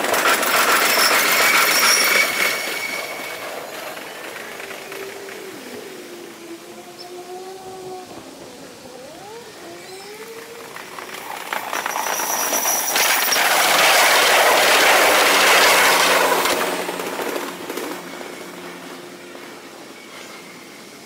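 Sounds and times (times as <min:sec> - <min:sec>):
electric train passing: 0:00.0 - 0:21.0
high thin train whine: 0:00.0 - 0:21.0.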